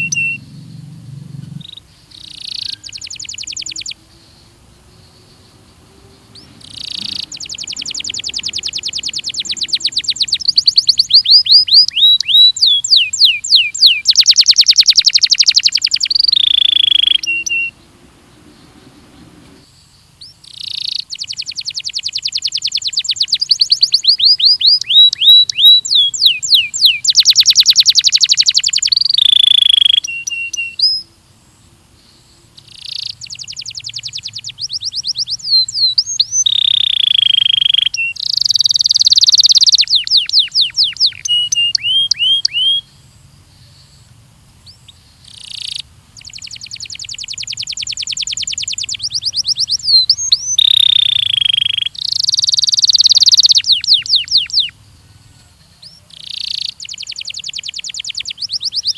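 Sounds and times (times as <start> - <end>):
canary singing: 0.0 - 31.1, 32.5 - 44.0, 44.6 - 58.9.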